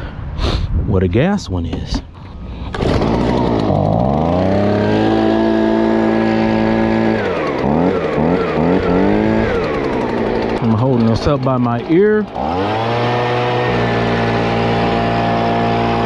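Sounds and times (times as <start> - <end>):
leaf blower engine revving: 2.7 - 16.0.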